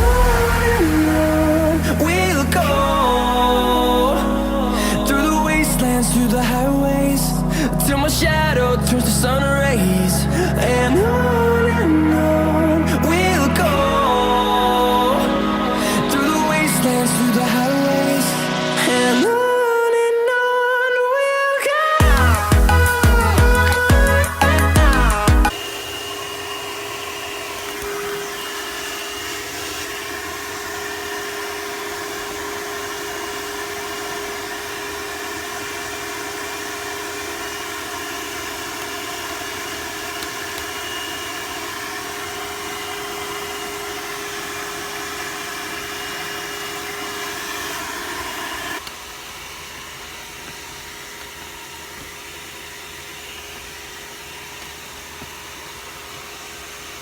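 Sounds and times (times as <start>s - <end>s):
vacuum cleaner motor whine: 0.0s - 20.1s, 25.5s - 57.0s.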